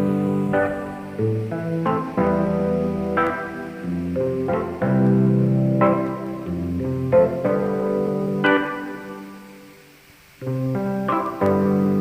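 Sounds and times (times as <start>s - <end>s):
plucked guitar music: 0.0s - 12.0s.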